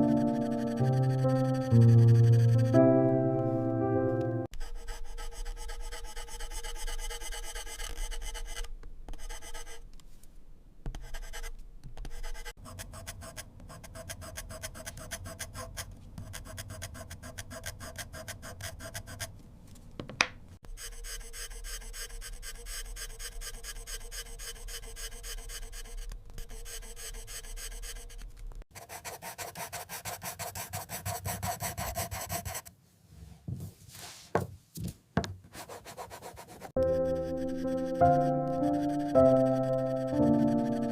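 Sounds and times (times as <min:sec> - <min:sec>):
pencil scratching on paper: 0:00.0 - 0:02.8, 0:04.5 - 0:09.8, 0:10.9 - 0:19.3, 0:20.7 - 0:32.7, 0:35.5 - 0:40.9.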